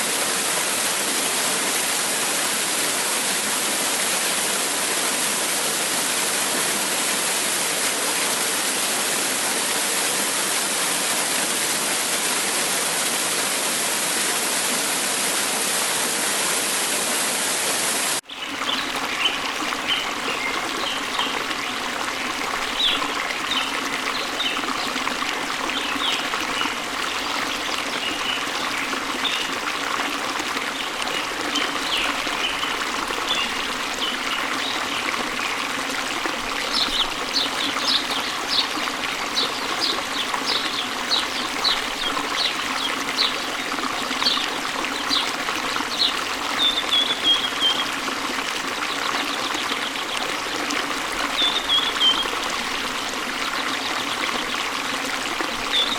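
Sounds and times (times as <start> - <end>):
small waterfall splashing: 0.0 - 55.9.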